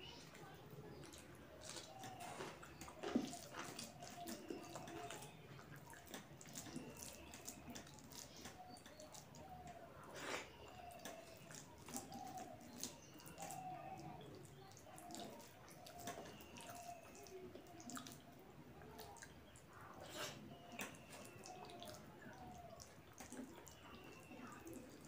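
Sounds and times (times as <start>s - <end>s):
mouth sounds of eating: 0.0s - 25.0s.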